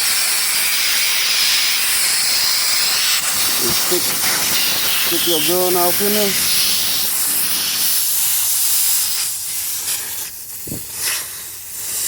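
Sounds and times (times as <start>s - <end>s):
air hissing from tire: 0.0s - 12.0s.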